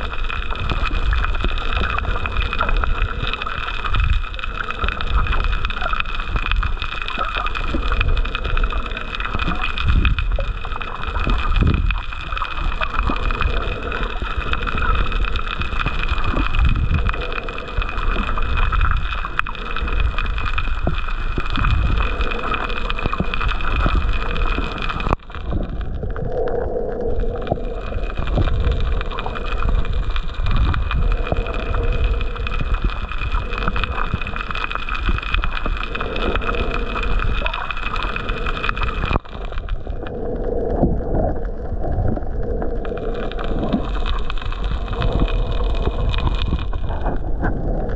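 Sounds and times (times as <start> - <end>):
water sloshing underwater: 0.0 - 47.9.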